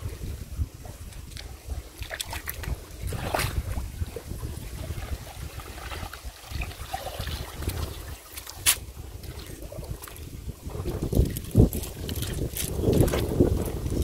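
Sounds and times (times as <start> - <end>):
wind rumbling on microphone: 0.0 - 14.0
water splashing and dripping: 1.0 - 14.0.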